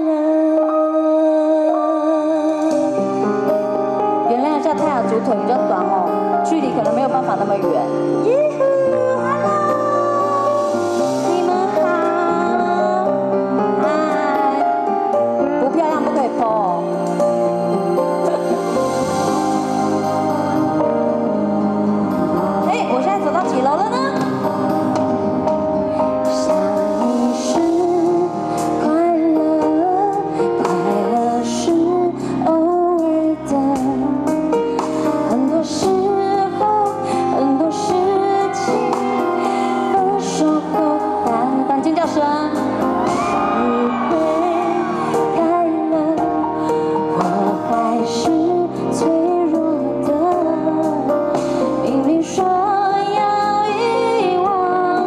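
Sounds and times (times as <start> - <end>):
backing music over loudspeakers: 0.0 - 55.0
woman singing pop song: 0.0 - 55.0.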